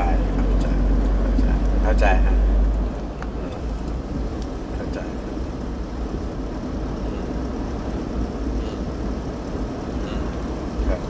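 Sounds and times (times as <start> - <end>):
vehicle rumble and hiss: 0.0 - 11.0.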